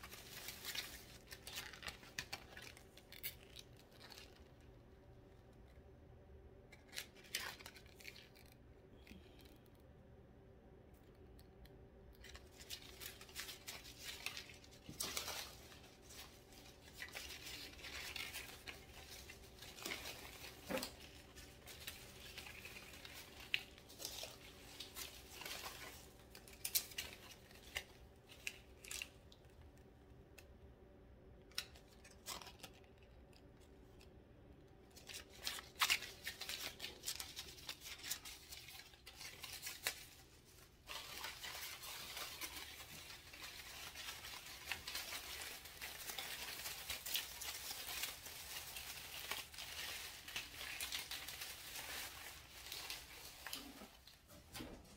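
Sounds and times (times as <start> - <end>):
plastic leaves rustling: 0.0 - 5.6, 6.7 - 9.6, 12.1 - 29.5, 34.9 - 54.9.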